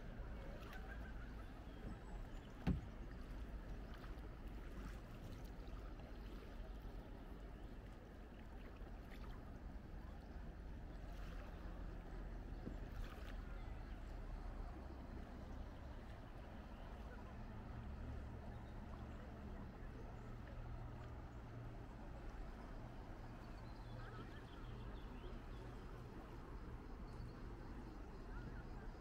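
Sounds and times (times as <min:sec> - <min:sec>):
low steady rumble: 0:00.0 - 0:29.0
paddle strokes in water: 0:00.0 - 0:29.0.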